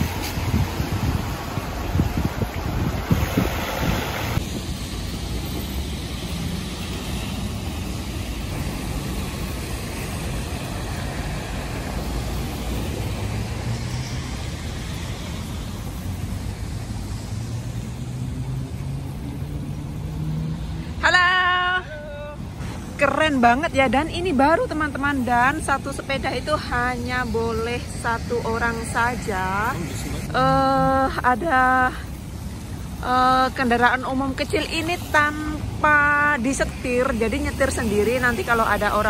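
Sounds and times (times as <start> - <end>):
vehicles passing on wet pavement: 0.0 - 39.0.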